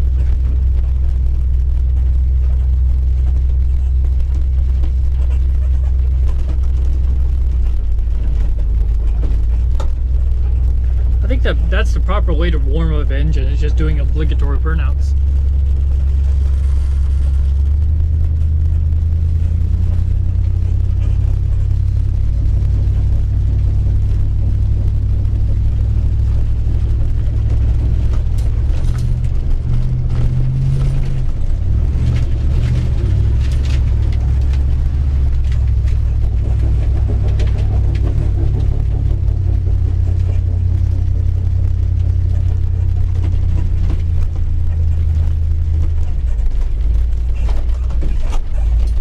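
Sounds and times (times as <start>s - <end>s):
car engine running: 0.0s - 49.0s.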